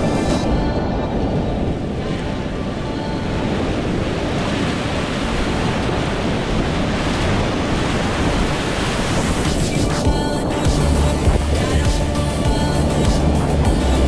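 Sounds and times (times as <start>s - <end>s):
wave splashing: 0.0s - 14.0s.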